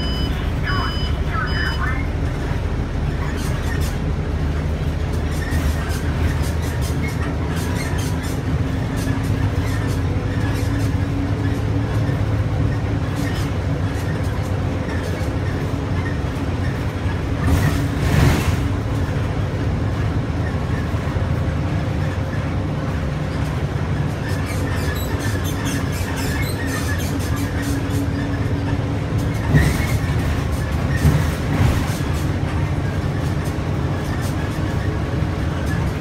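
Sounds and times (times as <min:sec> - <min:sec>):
bus engine and road rumble: 0:00.0 - 0:36.0
interior rattles and clicks: 0:02.2 - 0:36.0.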